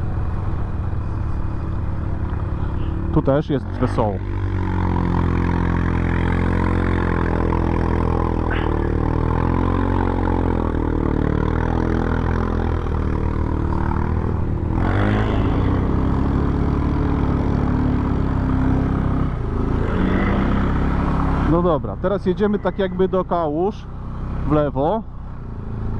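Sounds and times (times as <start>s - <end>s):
quad bike engine running: 0.0s - 25.9s.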